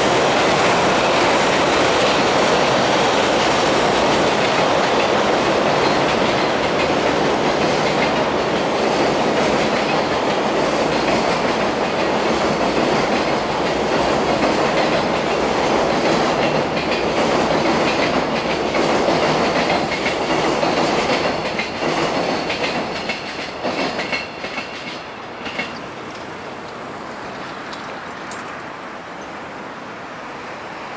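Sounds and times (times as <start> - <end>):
freight train wheels clattering: 0.0 - 26.8.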